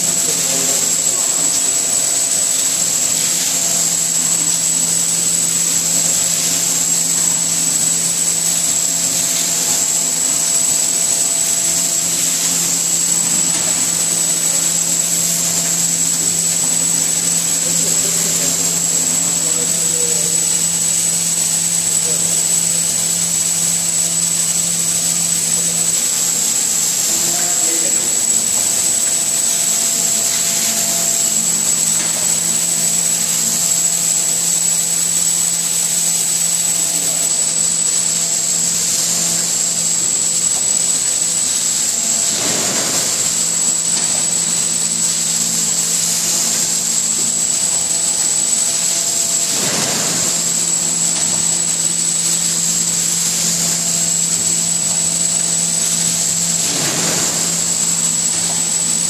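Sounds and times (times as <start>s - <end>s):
paper collating machine running: 0.0s - 59.0s.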